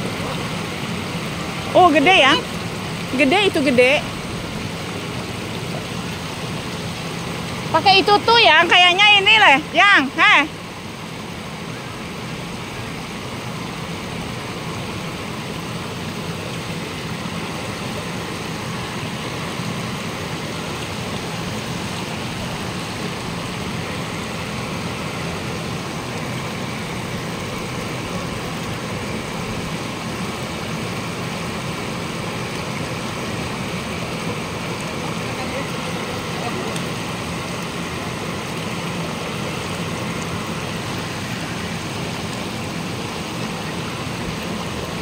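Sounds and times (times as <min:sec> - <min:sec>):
water rushing and hissing: 0:00.0 - 0:45.0.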